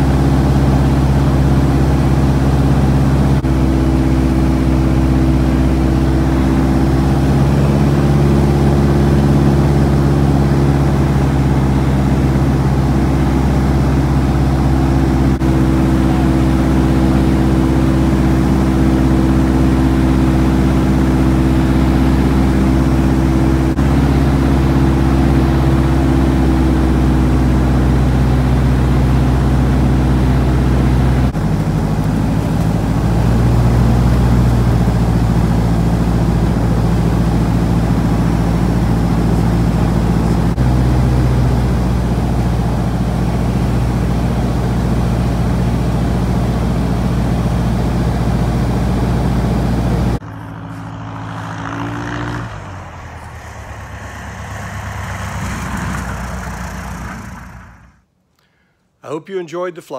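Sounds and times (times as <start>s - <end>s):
plane engine and propeller drone: 0.0s - 58.1s.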